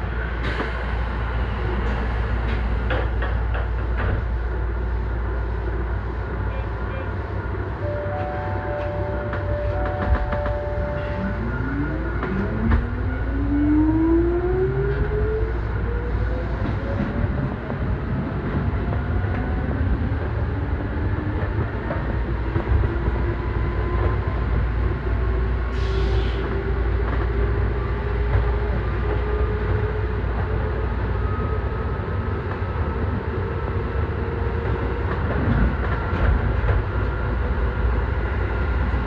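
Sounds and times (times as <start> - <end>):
train wheels running on track: 0.0 - 39.0.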